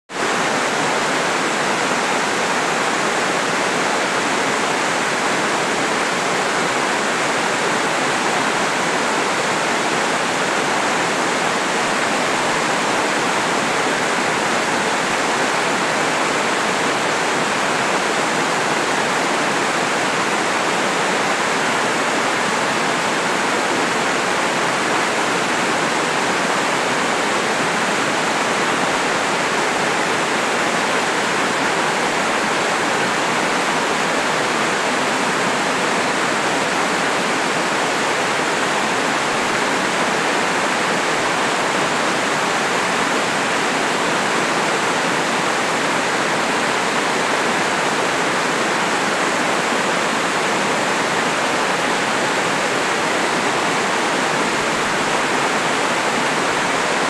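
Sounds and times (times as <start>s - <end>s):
waterfall roar: 0.1s - 57.0s.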